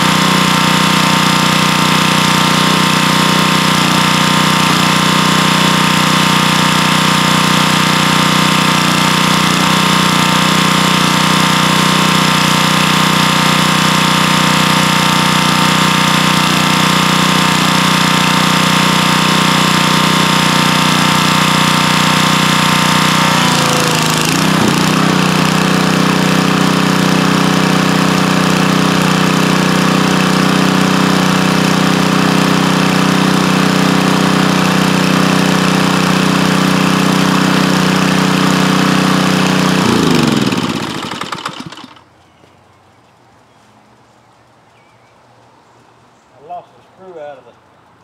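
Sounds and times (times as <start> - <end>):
water spraying from wand: 0.0 - 41.5
engine spinning down: 0.0 - 42.1
pressure washer engine: 0.0 - 42.1.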